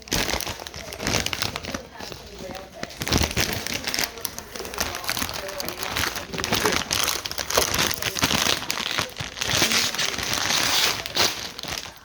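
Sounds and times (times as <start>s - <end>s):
plastic snack bag crinkling: 0.0s - 12.0s.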